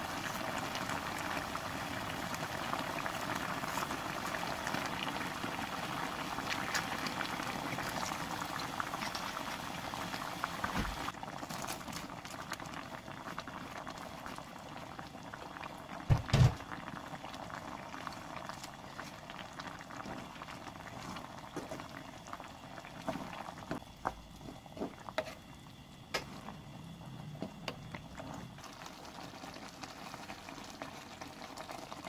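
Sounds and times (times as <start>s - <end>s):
sauce bubbling in a frying pan: 0.0s - 32.0s.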